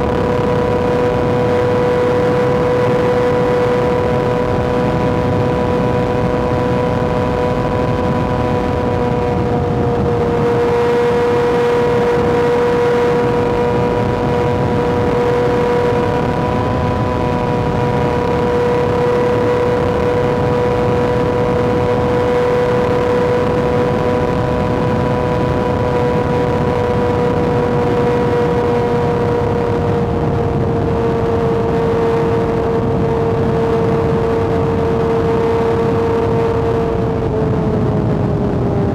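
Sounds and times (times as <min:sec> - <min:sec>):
motorcycle engine high pitch: 0:00.0 - 0:38.9
steady rushing noise: 0:00.0 - 0:38.9.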